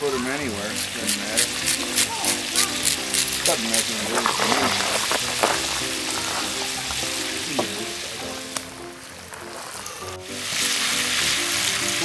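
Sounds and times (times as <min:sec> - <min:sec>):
background music: 0:00.0 - 0:12.0
hot oil sizzling in pot: 0:00.0 - 0:12.0.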